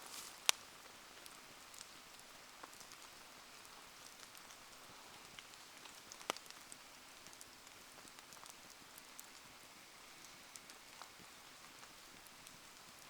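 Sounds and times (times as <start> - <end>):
bonfire popping and ticking: 0.0 - 13.0
rain hiss: 0.0 - 13.0
sharp crack of fire: 0.0 - 13.0.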